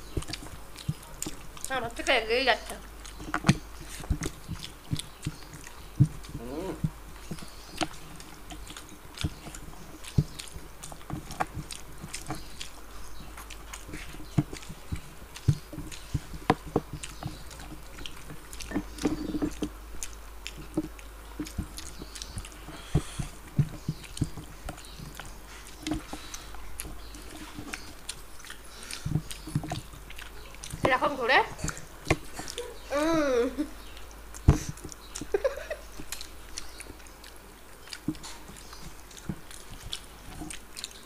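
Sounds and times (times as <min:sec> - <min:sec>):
fingers mixing rice and curry: 0:00.0 - 0:32.9, 0:33.8 - 0:41.0
people chewing: 0:00.0 - 0:41.0.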